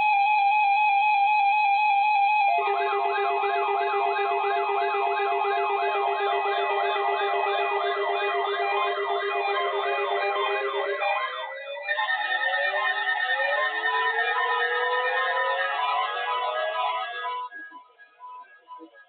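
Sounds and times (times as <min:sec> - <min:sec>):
electronic siren yelping: 0:00.2 - 0:17.5.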